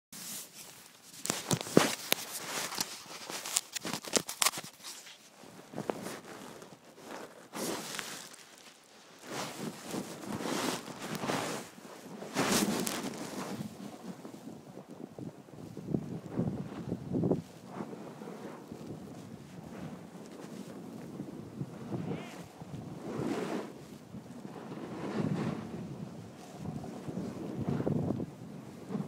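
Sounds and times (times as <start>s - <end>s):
microphone handling clicks and crackles: 0.2s - 29.0s
whooshing over snow: 5.4s - 29.0s.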